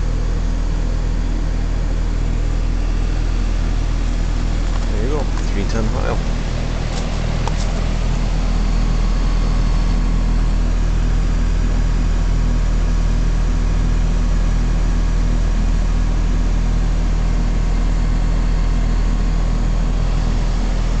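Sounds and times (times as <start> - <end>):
compressor hum: 0.0 - 21.0.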